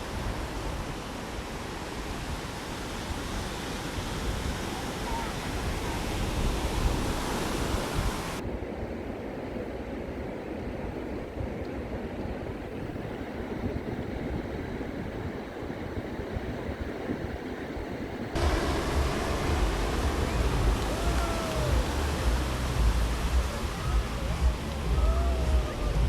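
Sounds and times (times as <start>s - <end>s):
sea surf: 0.0s - 11.4s, 12.4s - 26.0s
wind noise: 0.0s - 26.0s
wind rumble on microphone: 0.0s - 26.0s.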